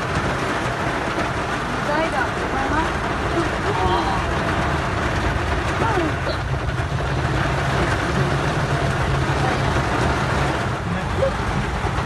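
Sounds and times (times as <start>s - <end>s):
road vehicle drone: 0.0s - 12.0s.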